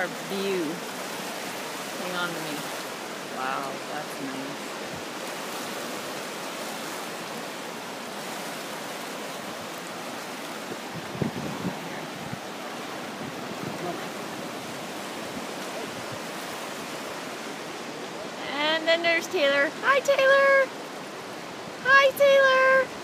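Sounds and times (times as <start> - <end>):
river rushing over rapids: 0.0 - 23.0.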